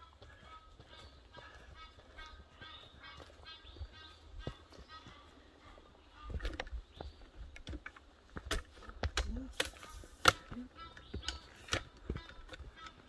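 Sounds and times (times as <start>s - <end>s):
dry leaves and twigs crunching: 0.0s - 13.0s
footsteps on forest path: 0.0s - 13.0s.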